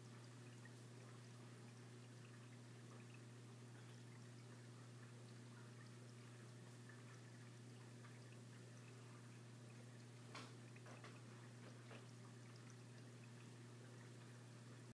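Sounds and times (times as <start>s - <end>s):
aquarium low hum: 0.0s - 14.9s
water trickling: 0.0s - 14.9s.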